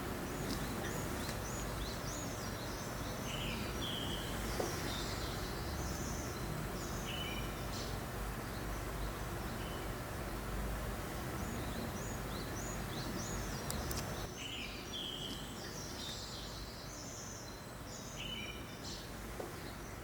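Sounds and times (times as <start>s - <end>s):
small birds chirping: 0.0s - 20.0s
steady breeze: 0.0s - 20.0s.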